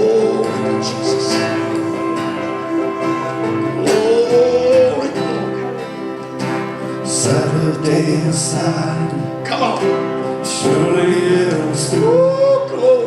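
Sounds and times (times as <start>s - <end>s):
voice gliding up: 0.0s - 13.0s
worship band playing with guitar: 0.0s - 13.0s.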